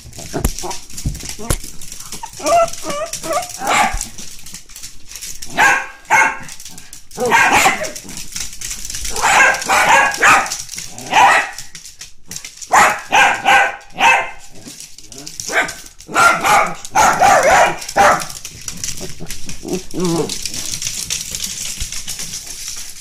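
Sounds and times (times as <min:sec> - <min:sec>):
dogs barking excitedly: 0:00.0 - 0:23.0.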